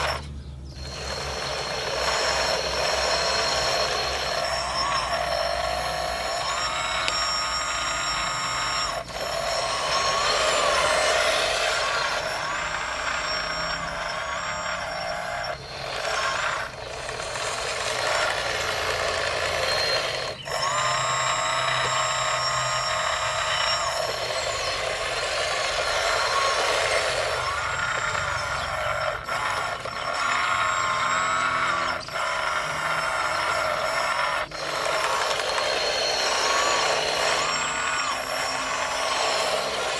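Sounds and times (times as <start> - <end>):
electric motors and hydraulic pumps whining: 0.0 - 39.9.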